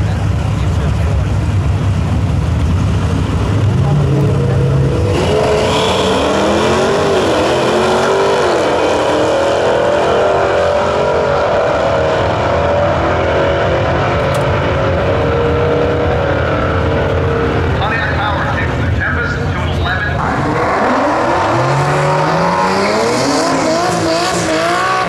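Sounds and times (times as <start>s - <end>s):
drag car engines accelerating: 0.0s - 25.0s.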